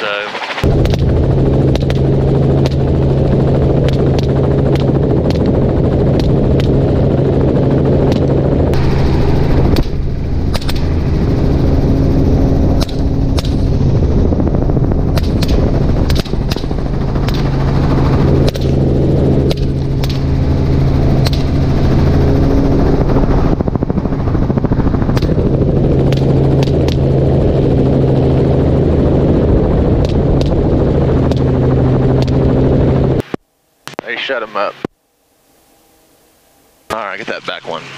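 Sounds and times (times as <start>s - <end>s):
helicopter running hum: 0.0s - 37.9s.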